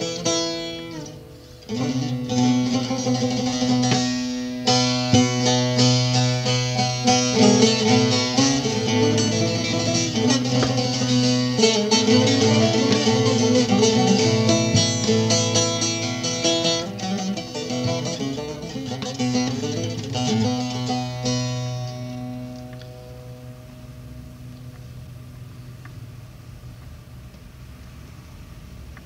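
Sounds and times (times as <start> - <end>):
plucked long-necked lute melody: 0.0 - 26.0.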